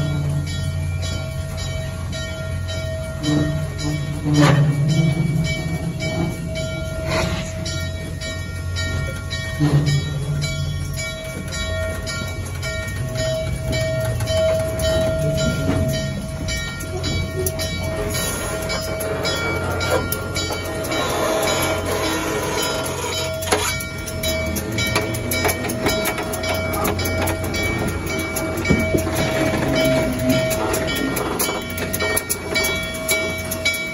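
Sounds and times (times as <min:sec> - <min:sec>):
steam locomotive whine and beat: 0:00.0 - 0:33.9.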